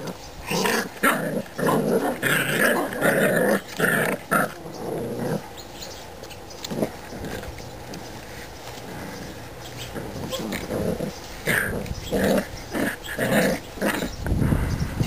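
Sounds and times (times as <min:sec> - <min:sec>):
puppies growling: 0:00.0 - 0:05.7, 0:06.6 - 0:14.3.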